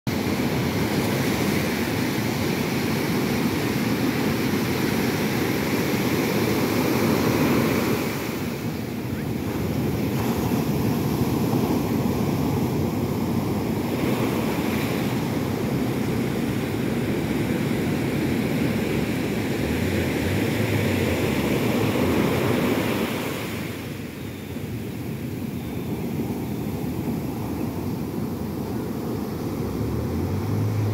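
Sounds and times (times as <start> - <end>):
ocean surf breaking on beach: 0.1 - 30.9.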